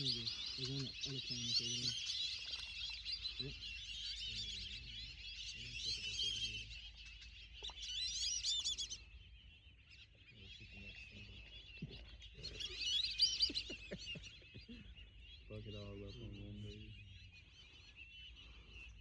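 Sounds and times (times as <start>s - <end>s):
whistling ducks calling: 0.0s - 19.0s.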